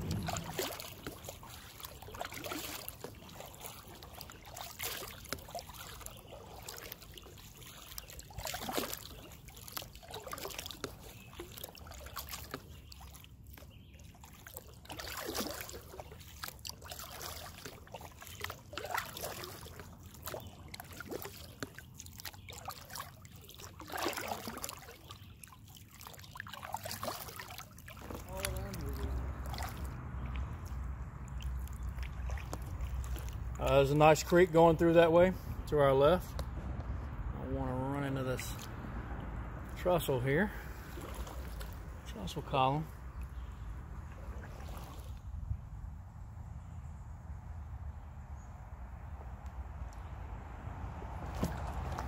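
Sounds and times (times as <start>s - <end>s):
paddle splashing: 0.0s - 37.0s, 38.0s - 45.7s, 49.8s - 52.0s
river water trickling and sloshing: 0.0s - 52.0s.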